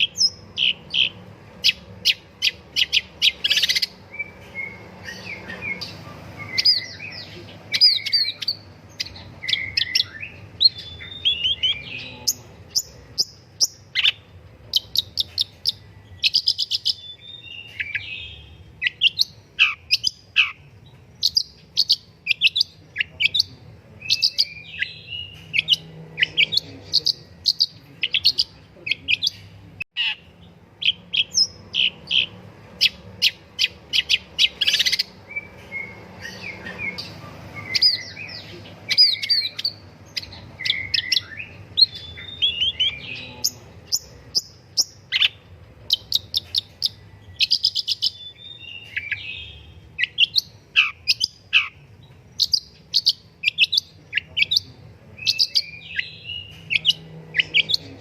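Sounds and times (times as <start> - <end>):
bird singing high chirps: 0.0 - 58.0.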